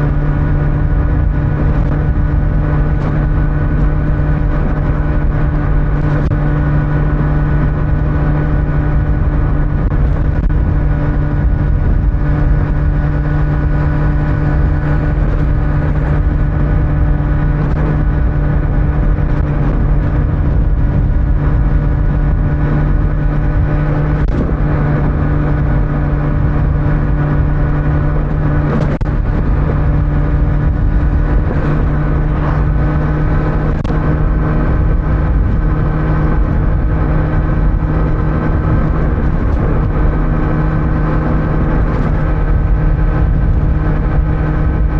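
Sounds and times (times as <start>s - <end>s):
motorcycle engine cruising: 0.0s - 44.9s
wind and road noise: 0.0s - 44.9s.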